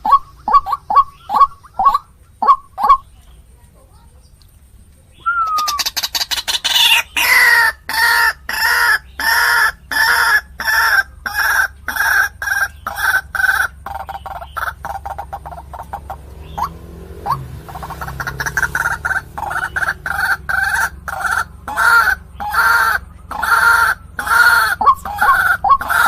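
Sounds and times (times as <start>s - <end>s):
waterhen calling: 0.0s - 3.3s, 5.1s - 26.0s.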